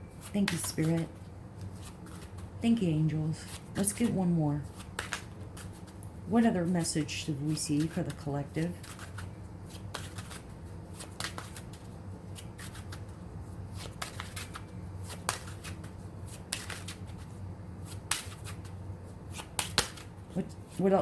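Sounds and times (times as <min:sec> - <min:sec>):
steady low hum: 0:00.0 - 0:21.0
cards shuffling by hand: 0:00.1 - 0:21.0.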